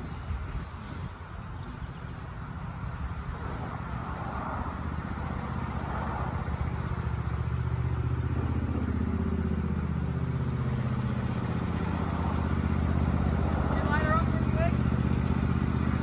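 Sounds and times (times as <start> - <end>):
riding lawn mower engine running: 0.0 - 16.0.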